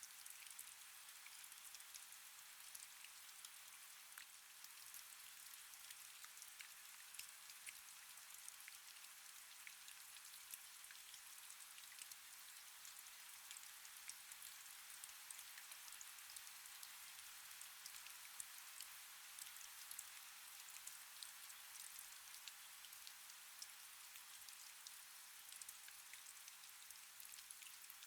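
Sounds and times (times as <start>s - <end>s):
faint rain: 0.0s - 28.0s.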